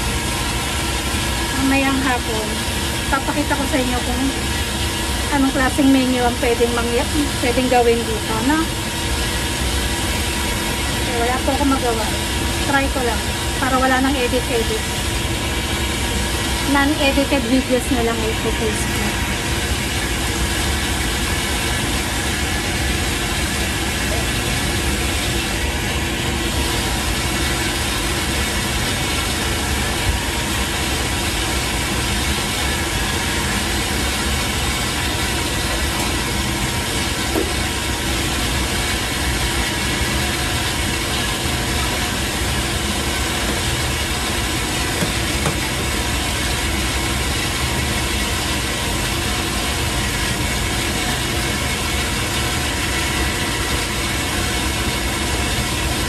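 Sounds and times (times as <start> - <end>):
kitchen machinery rush: 0.0 - 56.0
steady machinery hums: 0.0 - 56.0.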